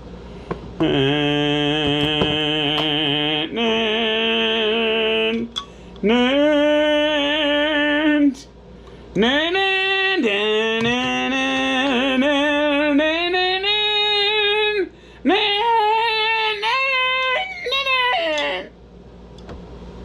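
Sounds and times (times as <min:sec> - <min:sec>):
person singing long held notes: 0:00.8 - 0:08.5, 0:09.2 - 0:18.7.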